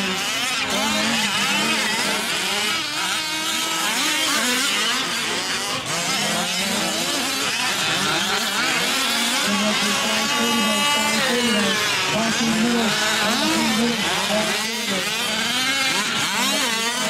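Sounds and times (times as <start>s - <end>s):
small two-stroke engines buzzing: 0.0s - 17.0s.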